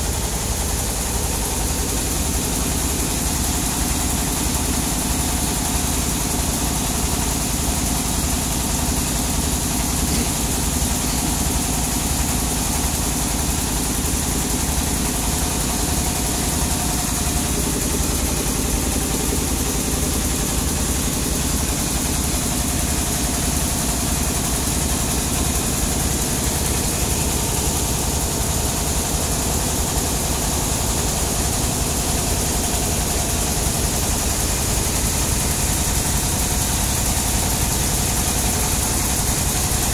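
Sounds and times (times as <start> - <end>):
sawmill engine throbbing: 0.0 - 39.8.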